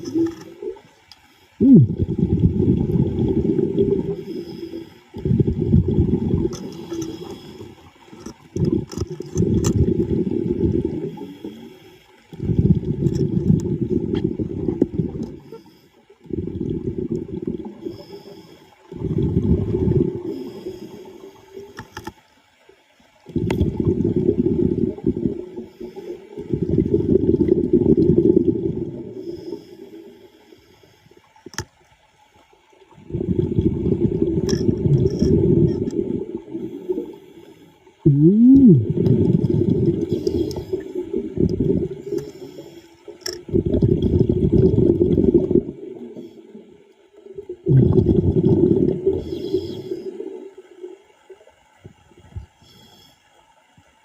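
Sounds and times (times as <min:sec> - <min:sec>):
exhaled air bubbling underwater: 0:00.0 - 0:54.0.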